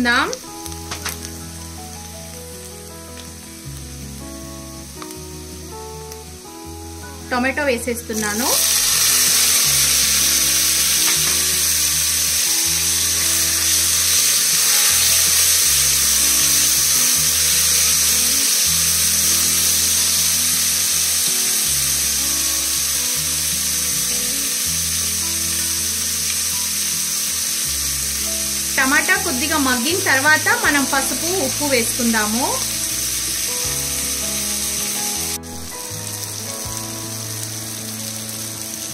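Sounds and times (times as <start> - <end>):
food sizzling in hot oil: 0.0 - 38.9
background music with bass line: 0.1 - 38.9.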